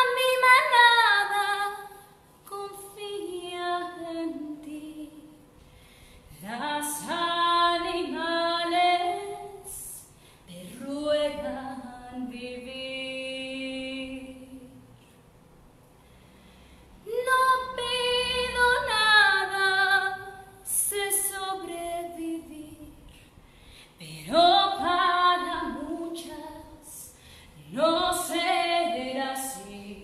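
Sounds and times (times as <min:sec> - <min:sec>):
woman singing a cappella: 0:00.0 - 0:05.5, 0:06.4 - 0:15.0, 0:17.0 - 0:23.3, 0:24.0 - 0:30.0.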